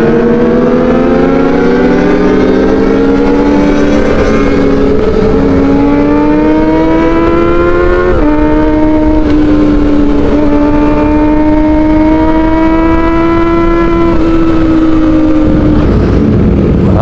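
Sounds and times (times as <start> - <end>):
motorcycle engine at high revs: 0.0 - 16.8
wind rumble: 0.0 - 17.0.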